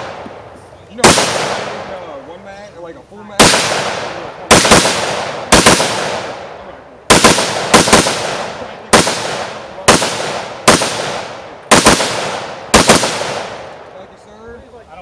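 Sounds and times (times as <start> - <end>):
rifle shots with echo: 0.0 - 2.2, 3.3 - 14.0.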